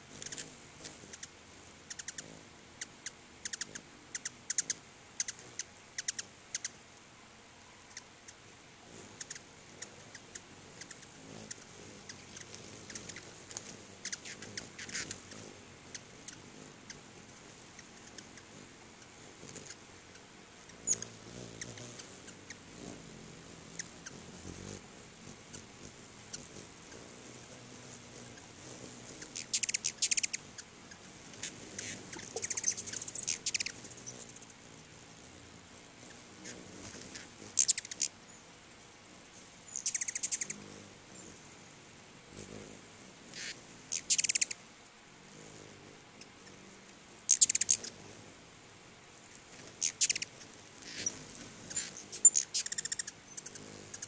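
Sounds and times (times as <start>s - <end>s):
hummingbirds chipping chatter: 0.0s - 54.0s.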